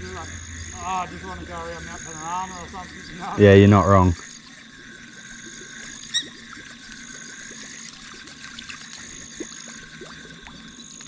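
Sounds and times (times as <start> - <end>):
faint trickling water: 0.0 - 11.0
frogs and insects trilling: 0.0 - 11.0.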